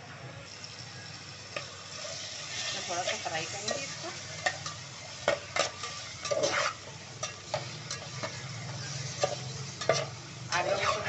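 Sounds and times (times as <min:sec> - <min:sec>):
chicken sizzling in oil: 0:00.4 - 0:11.0
metal spoon scraping a pot: 0:01.6 - 0:11.0.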